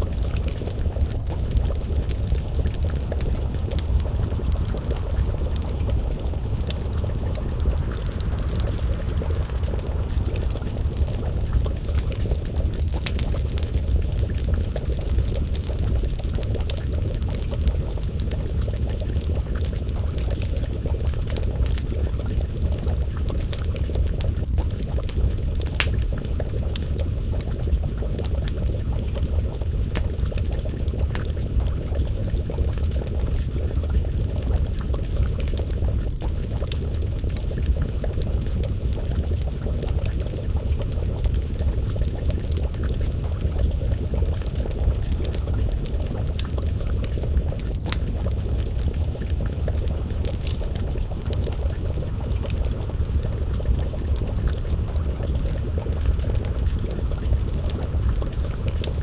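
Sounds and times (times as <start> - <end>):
low rumble of fire: 0.0 - 59.0
stew simmering and bubbling: 0.0 - 59.0
wood fire crackling: 0.0 - 59.0.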